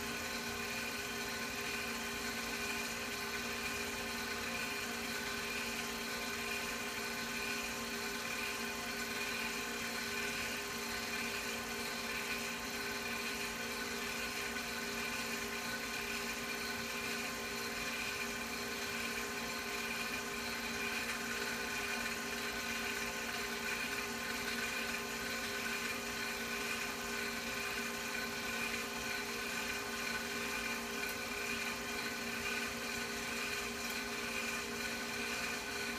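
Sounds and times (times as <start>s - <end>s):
film projector motor whirring: 0.0s - 35.9s.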